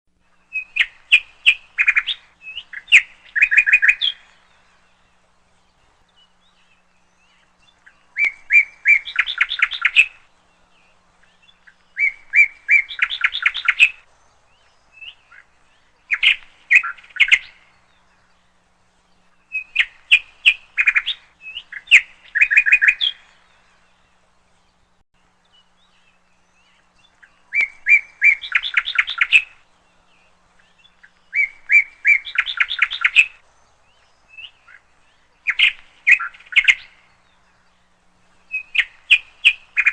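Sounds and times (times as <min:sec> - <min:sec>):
songbird chirping and trilling: 0:00.1 - 0:39.9.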